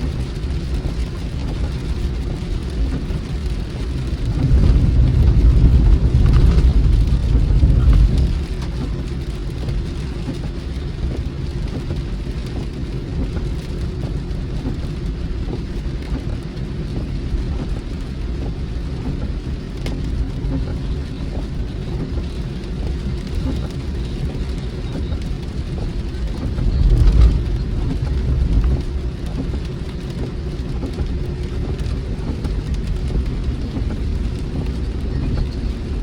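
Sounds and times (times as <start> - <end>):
car driving rumble: 0.0 - 36.0
deep rumble: 0.0 - 36.0
rain pattering on a car: 0.0 - 36.0.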